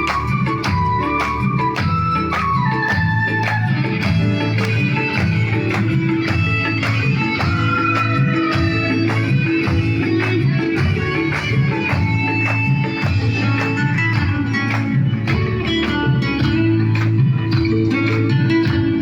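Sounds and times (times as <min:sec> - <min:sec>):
plucked guitar: 0:00.0 - 0:19.0.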